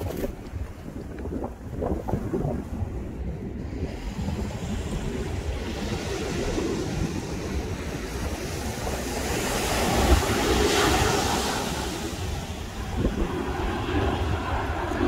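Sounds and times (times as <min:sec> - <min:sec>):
small waves breaking on beach: 0:00.0 - 0:15.0
wind buffeting microphone: 0:00.0 - 0:15.0.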